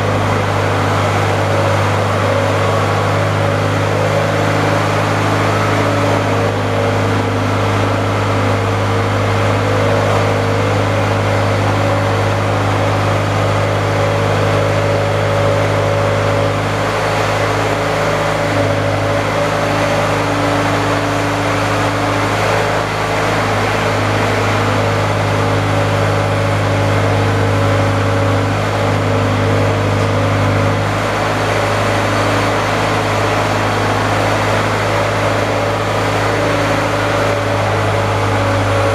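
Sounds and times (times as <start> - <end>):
engine humming steadily: 0.0 - 38.9.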